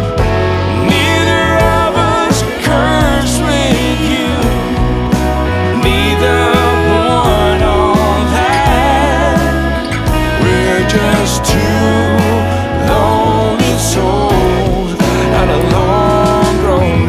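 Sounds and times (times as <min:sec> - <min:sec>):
song with bass and lead melody: 0:00.0 - 0:17.0.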